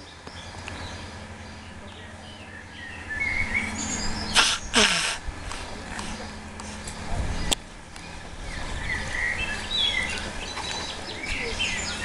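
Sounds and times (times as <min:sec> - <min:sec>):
outdoor background noise: 0:00.0 - 0:12.0
small birds chirping: 0:00.0 - 0:12.0.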